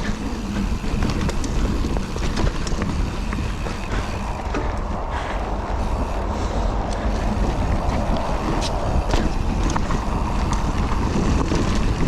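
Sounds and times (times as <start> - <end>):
bike rattling over bumps: 0.0 - 12.0
bike tyre noise: 0.0 - 12.0
wind rushing over microphone: 0.0 - 12.0.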